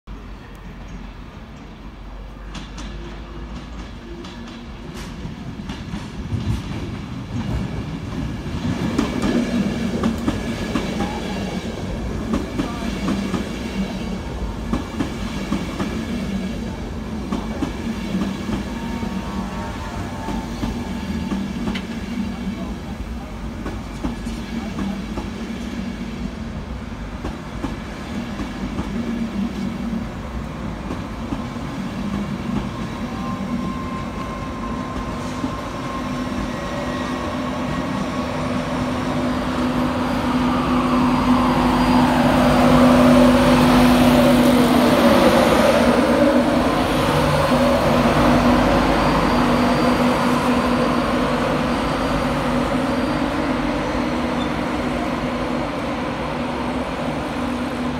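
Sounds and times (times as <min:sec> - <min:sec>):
train wheel noise: 0:00.6 - 0:57.9.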